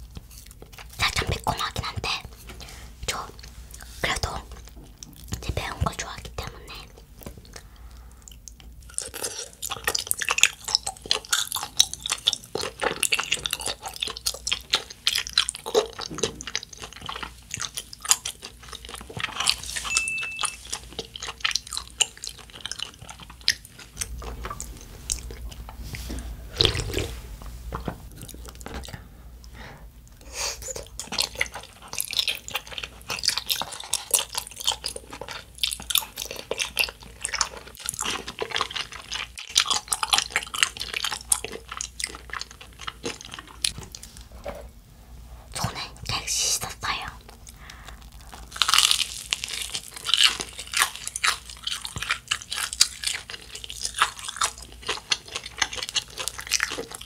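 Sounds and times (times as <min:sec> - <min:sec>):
wet chewing and lip-smacking: 0:00.0 - 0:02.4, 0:03.2 - 0:27.2, 0:30.1 - 0:44.3, 0:46.9 - 0:57.0.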